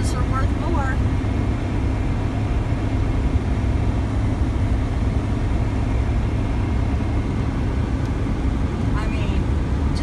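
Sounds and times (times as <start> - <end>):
engine and road rumble in car: 0.0 - 10.0.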